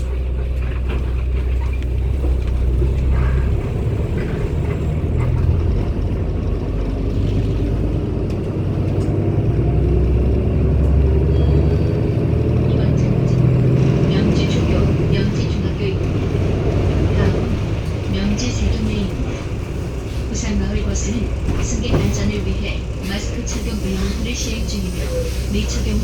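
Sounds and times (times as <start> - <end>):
bus diesel engine droning: 0.0 - 26.0.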